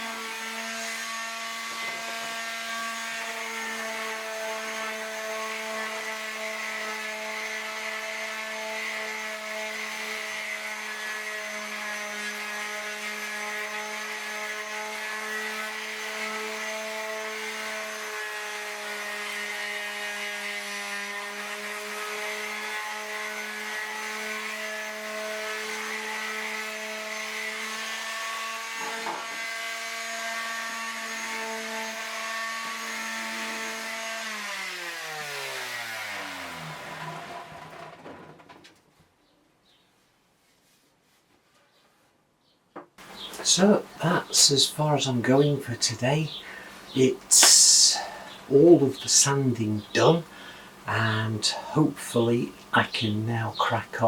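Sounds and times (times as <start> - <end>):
electric sander on wood: 0.0 - 38.6, 43.0 - 54.0.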